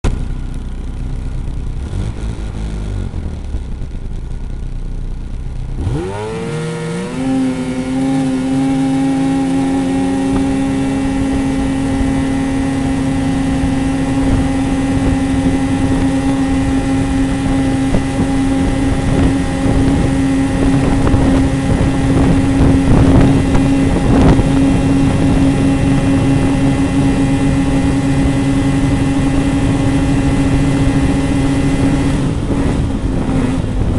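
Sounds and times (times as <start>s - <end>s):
vehicle engine idling and revving: 0.0s - 33.9s.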